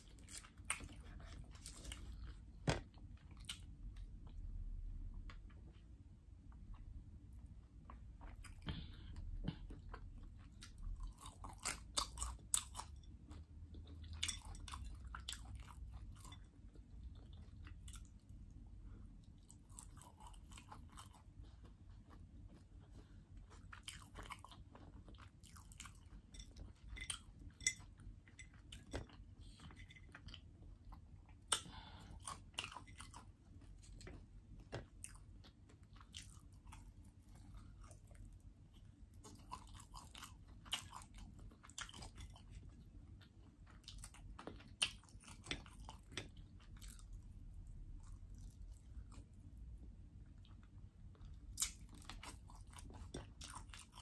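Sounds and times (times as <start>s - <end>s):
person chewing crunchy food: 0.0s - 4.6s, 6.6s - 54.0s.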